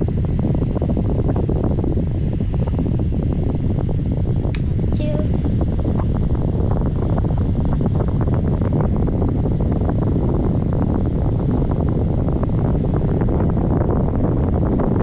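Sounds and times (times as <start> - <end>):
fan wind noise on microphone: 0.0 - 15.0.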